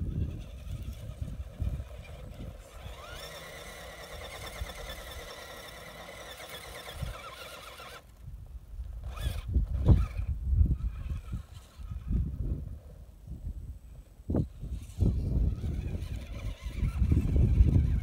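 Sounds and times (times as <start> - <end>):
electric motor whining: 0.0 - 8.2, 9.0 - 12.4, 14.4 - 18.0
wind rumbling on microphone: 0.0 - 18.0.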